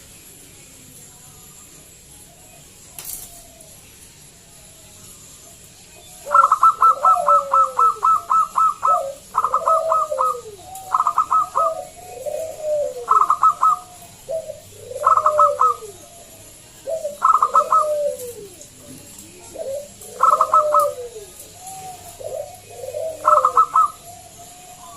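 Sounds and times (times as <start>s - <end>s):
dove singing and cooing: 1.4s - 24.9s.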